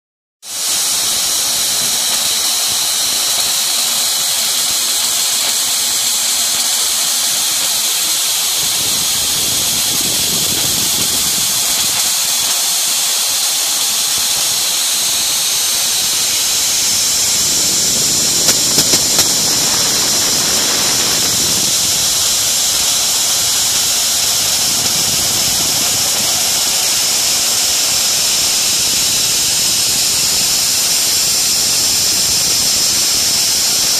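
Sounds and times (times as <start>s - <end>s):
milling machine cutting wood: 0.5s - 33.9s
spindle whine: 0.5s - 33.9s.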